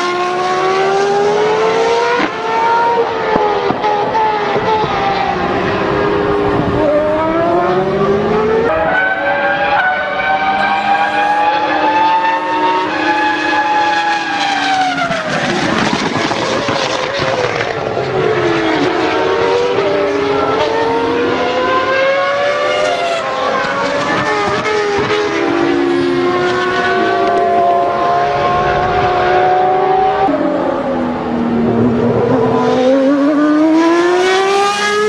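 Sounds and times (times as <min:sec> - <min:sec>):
go-kart engines revving: 0:00.0 - 0:35.0.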